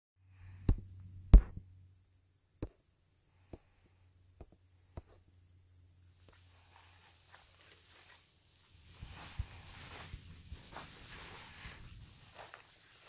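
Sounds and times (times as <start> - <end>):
faint low hum: 0.2 - 13.0.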